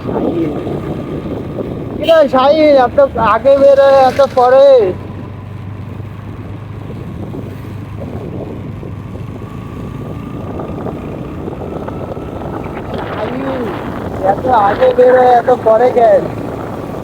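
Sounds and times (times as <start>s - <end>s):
motorcycle engine running: 0.0s - 17.0s
road noise: 0.0s - 17.0s
wind buffeting microphone: 0.0s - 17.0s.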